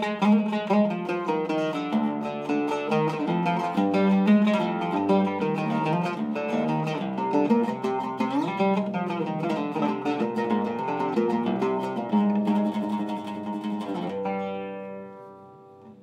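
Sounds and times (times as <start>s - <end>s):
oud plucked with a plectrum: 0.0s - 16.0s.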